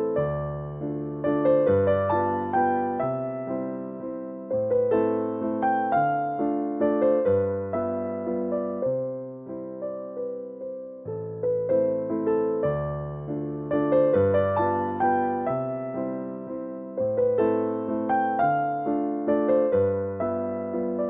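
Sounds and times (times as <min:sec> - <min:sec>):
piano melody: 0:00.0 - 0:21.0.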